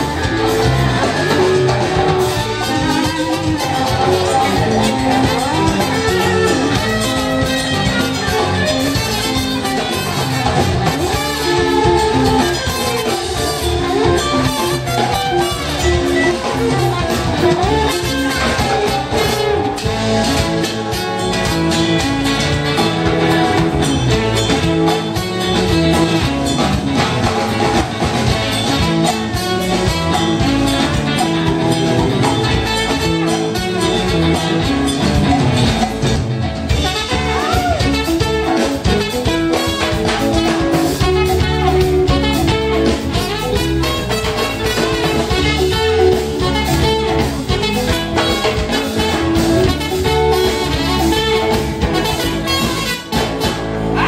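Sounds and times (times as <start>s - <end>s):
bass guitar: 0.0s - 54.0s
drum kit: 0.0s - 54.0s
electric guitars: 0.0s - 54.0s
trumpet: 0.0s - 54.0s.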